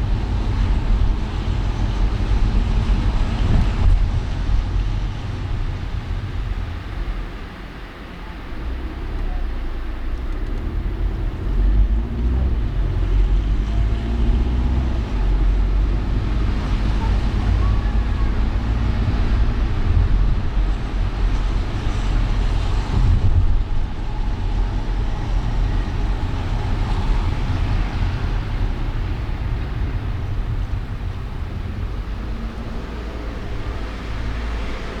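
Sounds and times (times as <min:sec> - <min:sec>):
deep low road rumble: 0:00.0 - 0:35.0
passing vehicle engines: 0:00.0 - 0:35.0.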